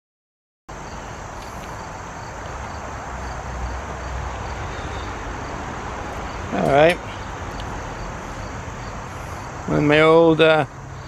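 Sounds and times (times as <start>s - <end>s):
cricket chirping: 0.7s - 11.0s
low outdoor rumble: 0.7s - 11.0s.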